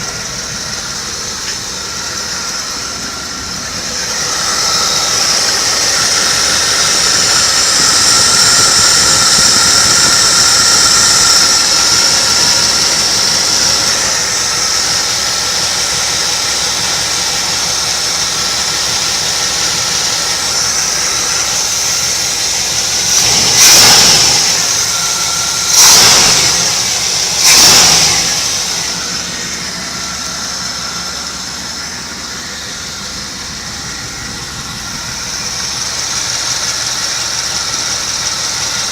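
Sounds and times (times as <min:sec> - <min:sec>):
car engine running and revving: 0:00.0 - 0:38.9.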